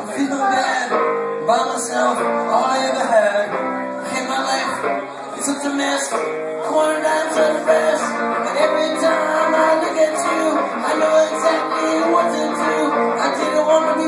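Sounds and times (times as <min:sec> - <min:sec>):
amplified electric guitar playing: 0:00.0 - 0:14.0.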